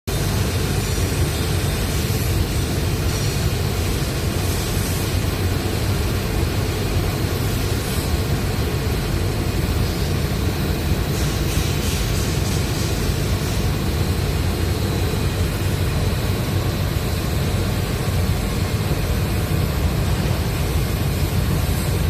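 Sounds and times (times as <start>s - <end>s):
crane engine running: 0.1s - 22.0s.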